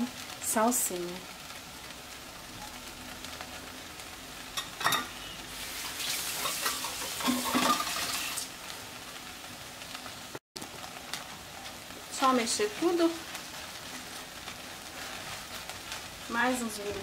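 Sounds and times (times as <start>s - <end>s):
meat sizzling in a pot: 0.0s - 17.0s.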